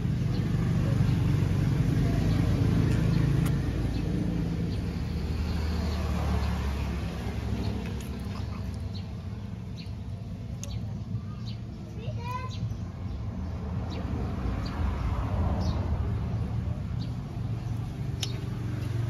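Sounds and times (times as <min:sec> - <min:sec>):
passing vehicle rumble: 0:00.0 - 0:19.0.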